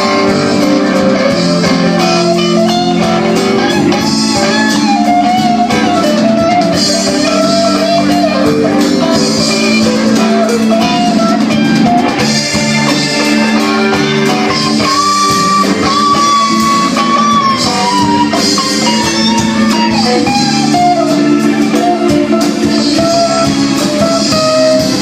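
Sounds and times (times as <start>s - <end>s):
bending high melody line: 0.0s - 25.0s
live band playing: 0.0s - 25.0s.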